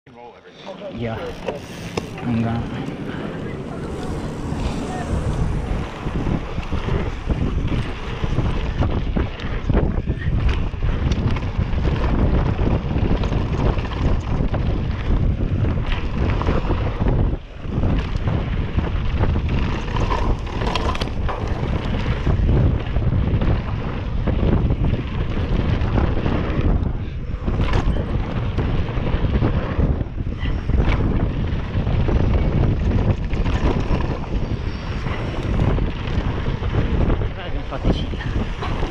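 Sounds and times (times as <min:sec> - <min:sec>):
bike rattling: 0:00.7 - 0:38.9
tyres rumbling on dirt: 0:00.8 - 0:38.9
wind buffeting microphone: 0:00.9 - 0:38.9.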